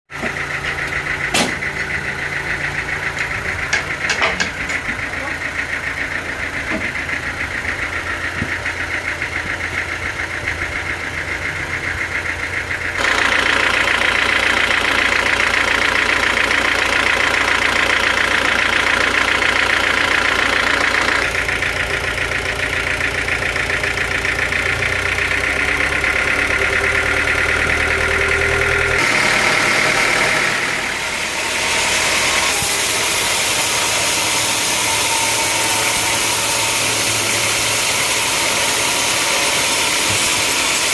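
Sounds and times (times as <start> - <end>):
sawmill machinery running: 0.1 - 40.9.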